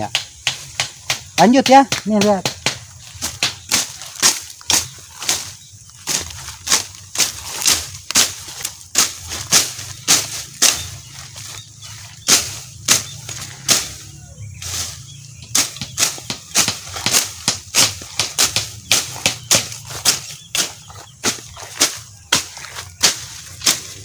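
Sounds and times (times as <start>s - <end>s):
sickle swishing through grass: 2.3s - 24.0s.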